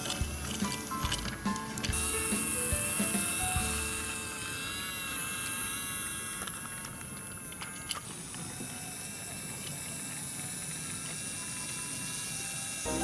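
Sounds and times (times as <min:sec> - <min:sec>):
toy train motor whining: 0:00.0 - 0:13.0.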